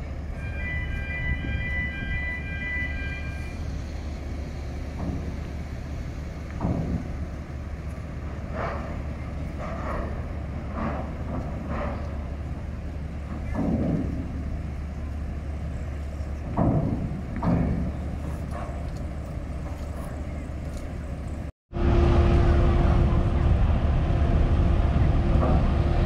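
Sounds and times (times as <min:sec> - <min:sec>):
ship low hum: 0:00.0 - 0:26.0
cars driving off ramp: 0:02.4 - 0:26.0.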